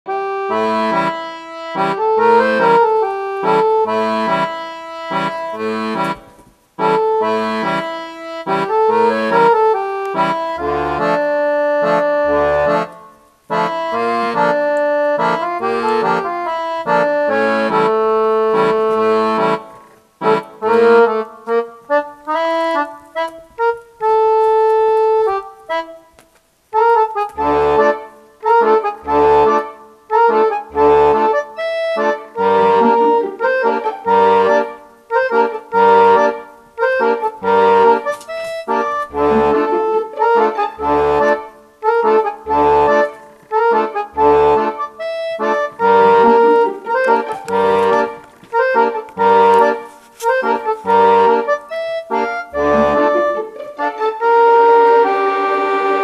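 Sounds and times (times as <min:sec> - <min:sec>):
accordion music: 0:00.0 - 0:56.0.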